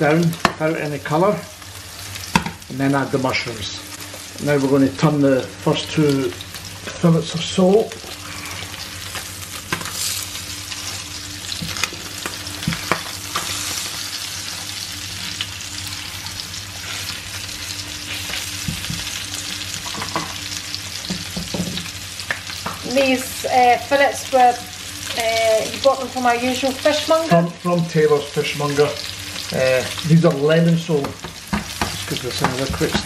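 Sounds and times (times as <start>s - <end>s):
fish fillets sizzling in a pan: 0.0s - 33.0s.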